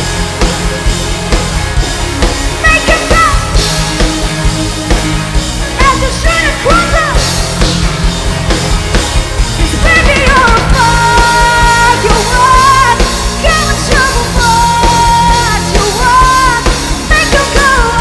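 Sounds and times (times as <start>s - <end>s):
live band music through speakers: 0.0s - 18.0s
sliding melodic phrases: 0.0s - 18.0s.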